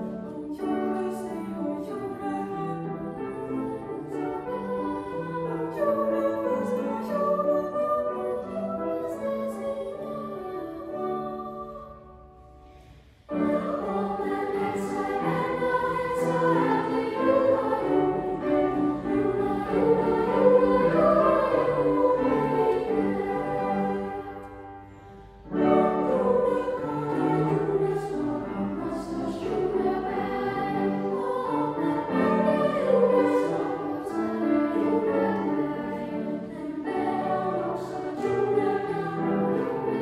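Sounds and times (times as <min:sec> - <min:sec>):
boys' choir singing: 0:00.0 - 0:12.3, 0:13.2 - 0:24.9, 0:25.5 - 0:40.0.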